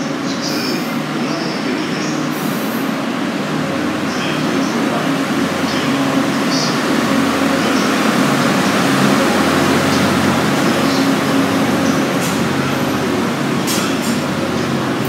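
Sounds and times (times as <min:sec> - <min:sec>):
train rumbling slowly: 0:00.0 - 0:15.0.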